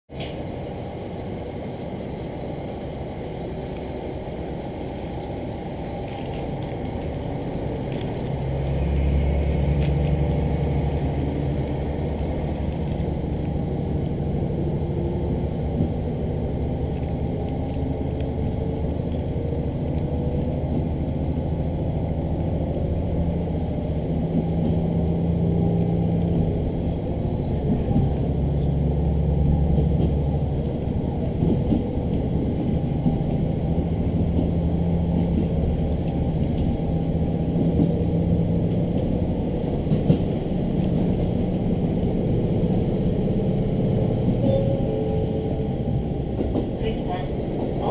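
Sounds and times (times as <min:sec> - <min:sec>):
diesel railcar engine droning: 0:00.1 - 0:47.9
train clattering on track: 0:00.1 - 0:47.9.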